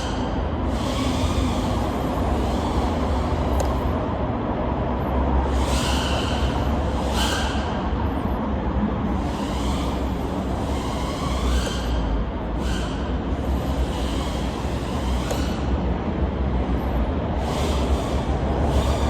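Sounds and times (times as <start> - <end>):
drone motors whining: 0.0 - 4.2, 5.0 - 8.4, 9.0 - 16.2, 16.8 - 19.0.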